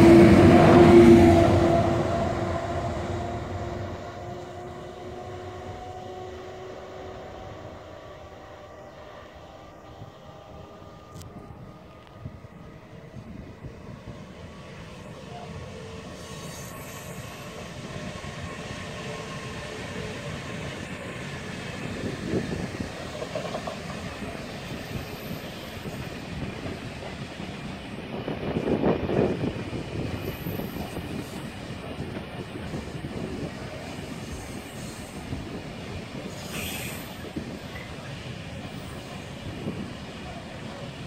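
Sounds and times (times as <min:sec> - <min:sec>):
freight train rolling on rails: 0:00.0 - 0:41.0.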